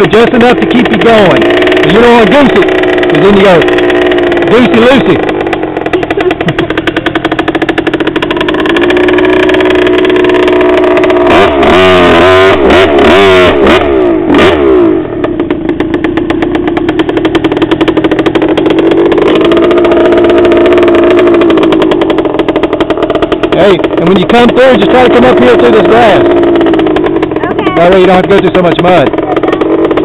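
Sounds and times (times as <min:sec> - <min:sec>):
dirt bike engine running: 0:00.0 - 0:30.0
engine throttle blips: 0:00.0 - 0:30.0.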